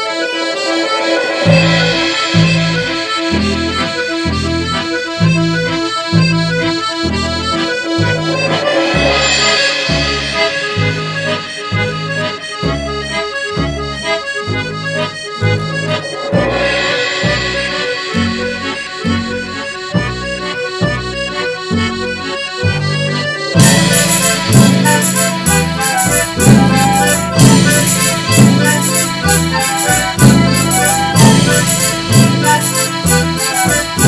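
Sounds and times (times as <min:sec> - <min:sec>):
accordion music: 0:00.0 - 0:34.0
rhythmic bass line: 0:00.0 - 0:34.0.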